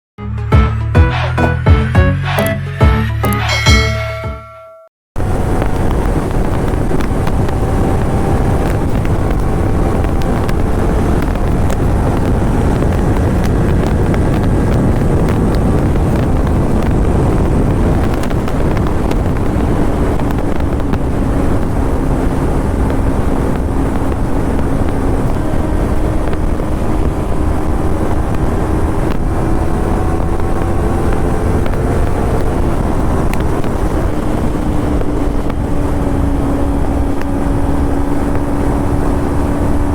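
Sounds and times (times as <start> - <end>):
motorcycle engine cruising: 5.2 - 39.9
wind rush on microphone: 5.2 - 39.9.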